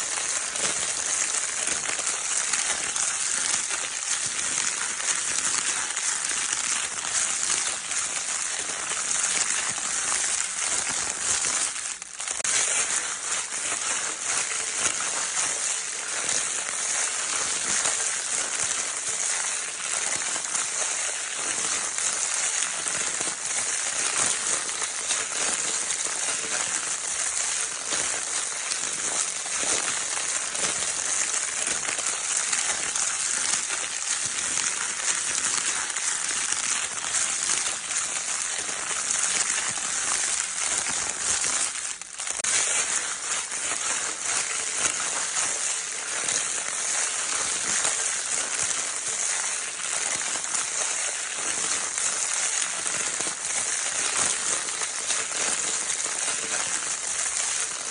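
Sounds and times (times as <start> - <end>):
crinkle paper being scrunched: 0.0 - 57.9.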